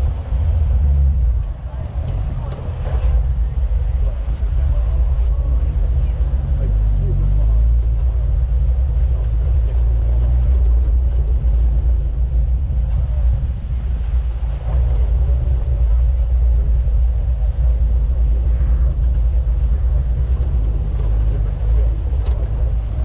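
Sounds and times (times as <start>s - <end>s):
off-road vehicle engine rumble: 0.0s - 23.0s.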